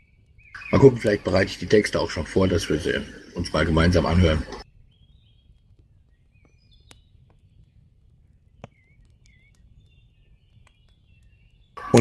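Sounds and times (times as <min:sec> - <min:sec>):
birds chirping and warbling: 0:00.0 - 0:12.0.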